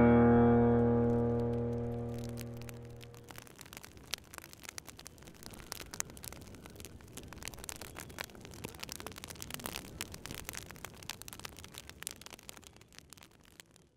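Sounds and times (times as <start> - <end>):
grass fire crackling and popping: 0.8 - 13.9
low rushing of fire: 0.8 - 13.9.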